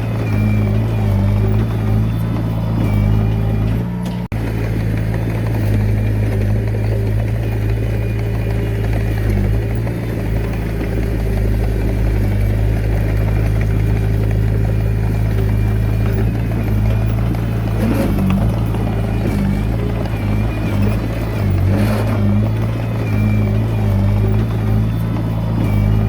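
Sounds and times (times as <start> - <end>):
diesel engine running: 0.0 - 26.0
engine clatter: 0.0 - 26.0.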